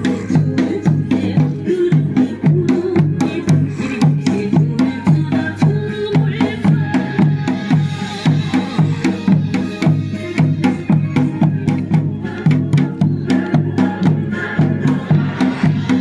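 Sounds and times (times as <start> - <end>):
dance music drum beat: 0.0 - 16.0.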